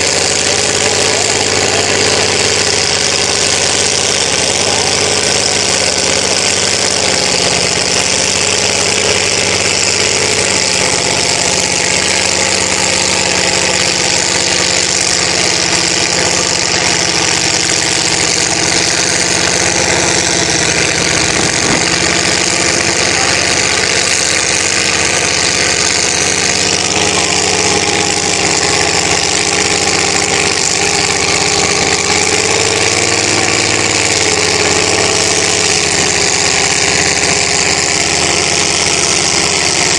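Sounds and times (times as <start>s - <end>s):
pickup truck engine running: 0.0s - 39.9s.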